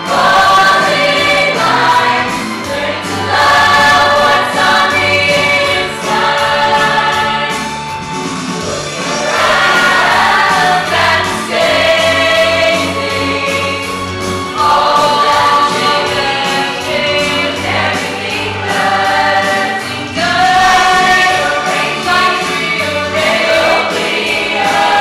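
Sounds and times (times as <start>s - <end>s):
large choir singing: 0.0s - 7.8s, 8.6s - 25.0s
musical accompaniment: 0.0s - 25.0s.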